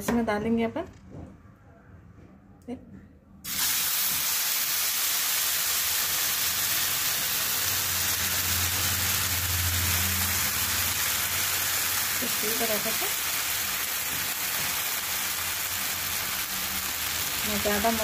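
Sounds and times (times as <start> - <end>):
batter sizzling in hot pan: 3.5 - 18.0.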